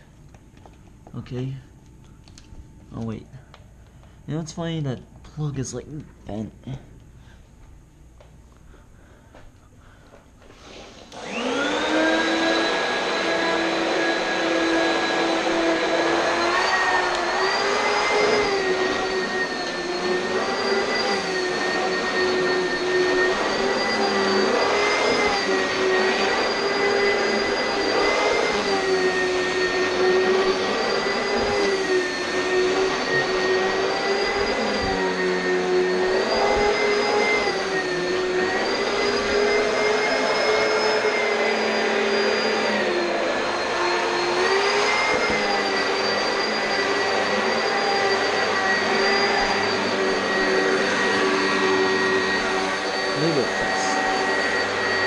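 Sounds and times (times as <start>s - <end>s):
vacuum cleaner running: 9.0s - 55.0s.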